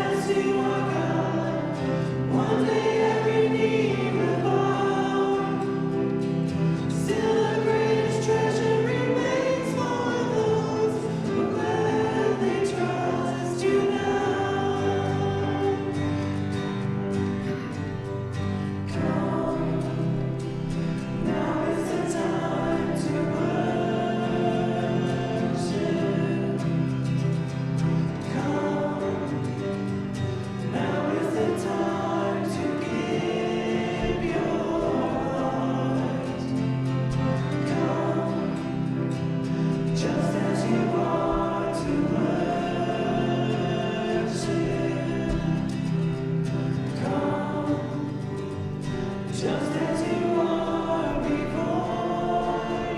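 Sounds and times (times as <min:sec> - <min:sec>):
congregation singing a hymn: 0:00.0 - 0:52.9
guitar accompaniment: 0:00.0 - 0:52.9.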